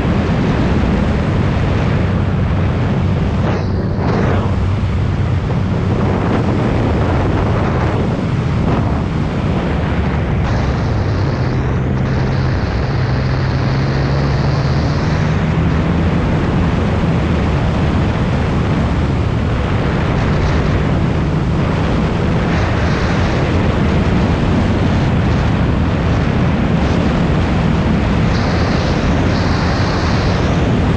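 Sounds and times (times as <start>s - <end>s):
motorcycle engine running: 0.0s - 30.9s
wind rush on microphone: 0.0s - 30.9s.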